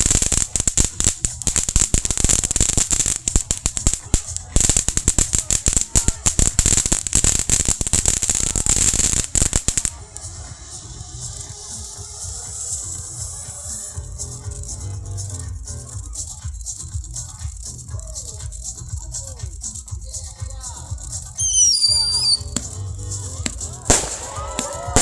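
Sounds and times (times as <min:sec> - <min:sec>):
fireworks crackling: 0:00.0 - 0:25.0
high hiss: 0:00.0 - 0:25.0
music: 0:00.0 - 0:25.0.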